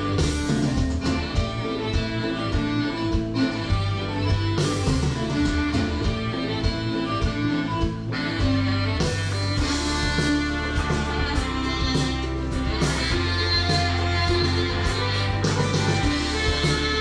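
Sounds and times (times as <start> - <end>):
bass line: 0.0 - 17.0
drum hits: 0.0 - 17.0
rock guitars: 0.0 - 17.0.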